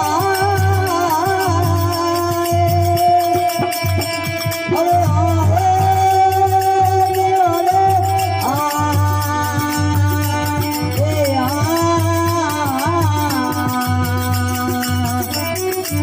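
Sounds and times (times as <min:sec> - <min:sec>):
folk devotional melody: 0:00.0 - 0:16.0
light percussion: 0:00.0 - 0:16.0
pulsing drum beat: 0:00.0 - 0:16.0.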